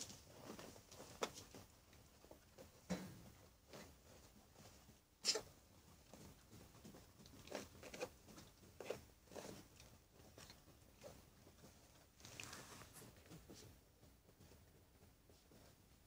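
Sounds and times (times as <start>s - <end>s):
fabric rustles: 0.0s - 16.0s
puppies scuffling and mouthing: 0.0s - 16.0s.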